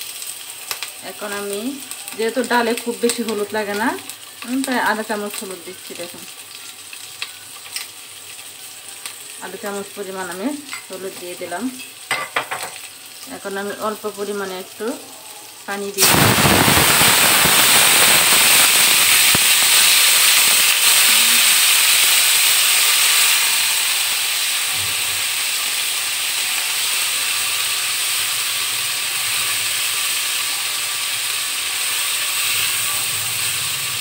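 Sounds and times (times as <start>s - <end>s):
water sizzling in hot oil: 0.0s - 34.0s.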